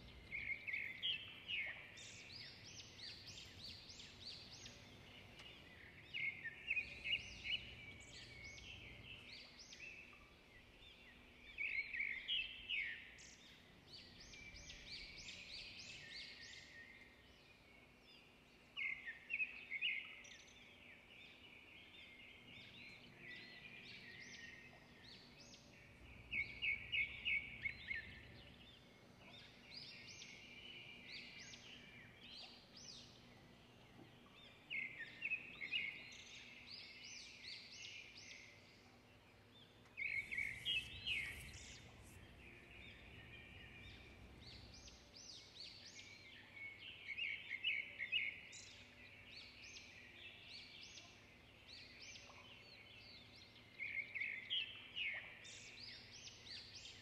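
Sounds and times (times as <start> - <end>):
birds chirping: 0.0 - 17.6, 20.3 - 57.0.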